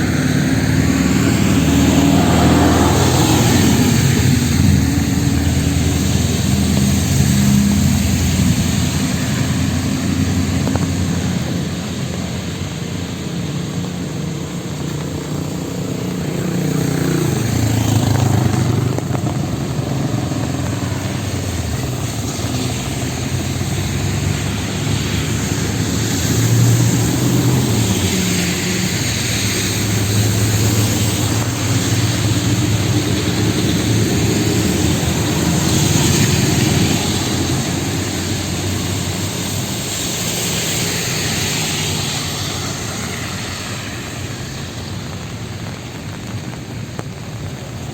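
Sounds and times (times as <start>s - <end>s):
tyre noise on wet road: 0.0s - 47.9s
vehicle engines running: 0.0s - 47.9s.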